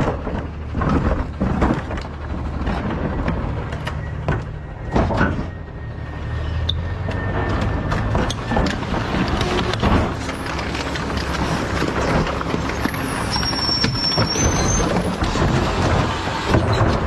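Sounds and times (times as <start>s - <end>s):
garbage truck engine: 0.0s - 17.0s
knocks and metal clatter: 0.0s - 17.0s.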